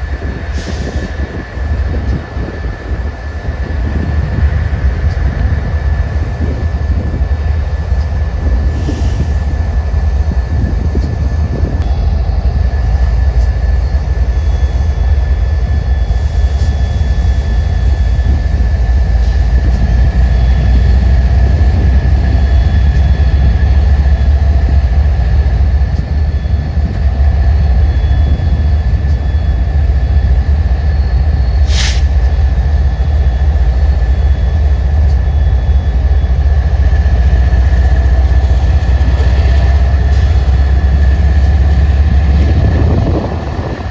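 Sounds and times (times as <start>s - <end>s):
thin steady whine: 0.0s - 43.9s
train rumbling past: 0.0s - 43.9s.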